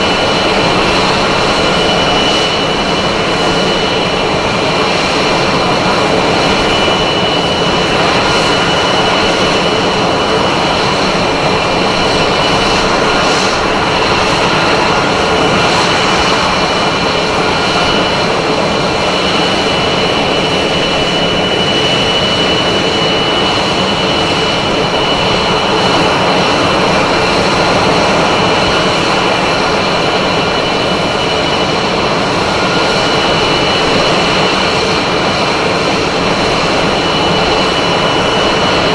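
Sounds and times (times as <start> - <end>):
high engine whine: 0.0 - 38.9
jet engine roaring: 0.0 - 38.9.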